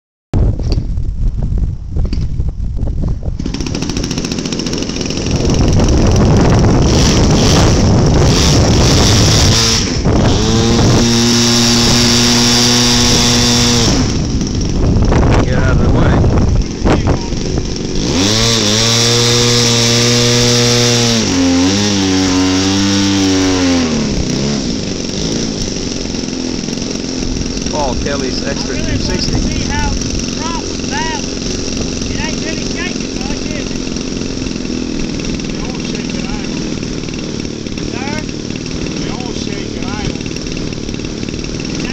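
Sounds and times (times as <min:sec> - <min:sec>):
wind rumble: 0:00.4 - 0:35.6
model airplane engine rattling: 0:02.1 - 0:41.9.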